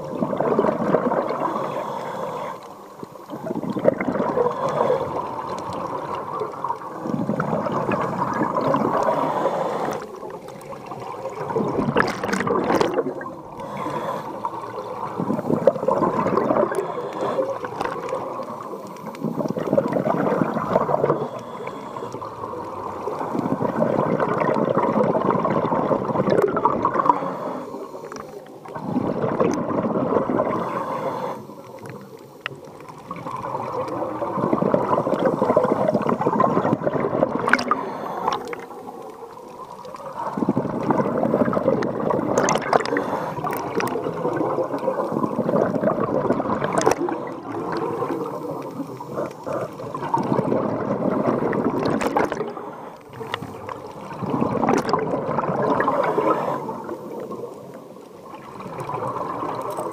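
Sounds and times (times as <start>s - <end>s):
underwater bubbles gurgling: 0.0s - 59.9s.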